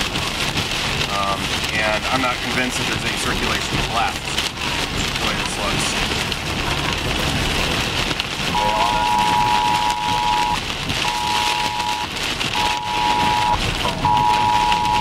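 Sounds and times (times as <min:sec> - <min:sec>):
heavy rain on a car: 0:00.0 - 0:15.0
road and wind noise: 0:00.0 - 0:15.0.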